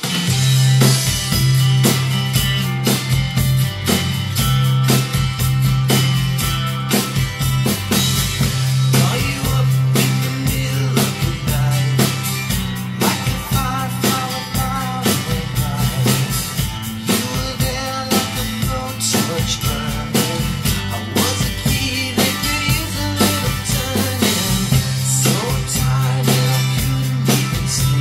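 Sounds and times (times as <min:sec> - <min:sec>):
drum kit rock beat: 0:00.0 - 0:28.0
recorded rock song: 0:00.0 - 0:28.0.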